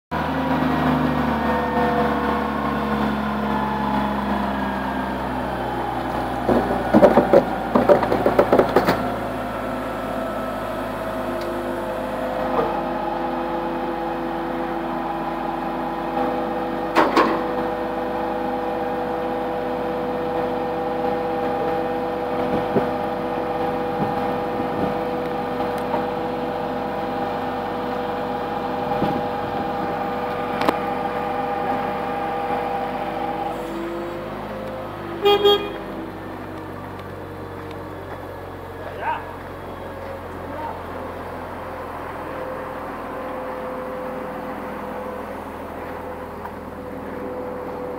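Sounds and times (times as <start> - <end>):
crane engine hum and whine: 0.1 - 47.9.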